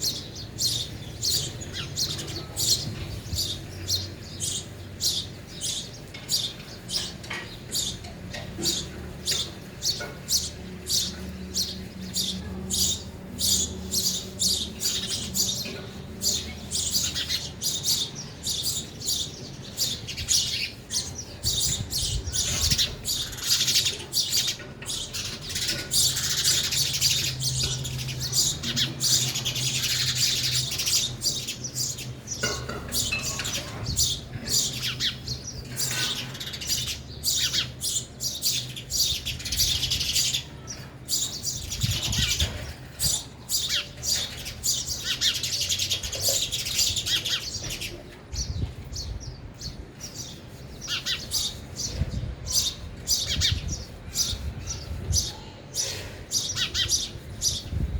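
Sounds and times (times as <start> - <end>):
sparrows chirping: 0.0 - 57.9.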